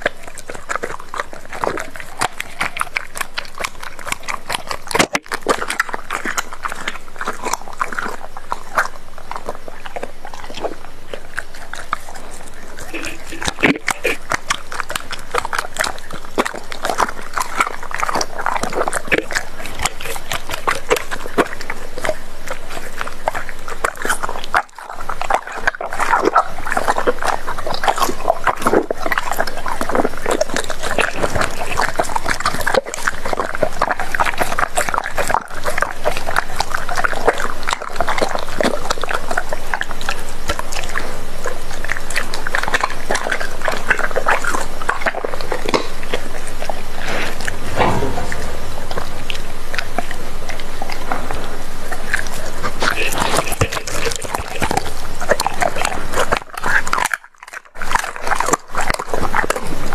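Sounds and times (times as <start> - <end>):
dog chewing meat: 0.0 - 59.9
teeth clicking on meat: 0.0 - 59.9.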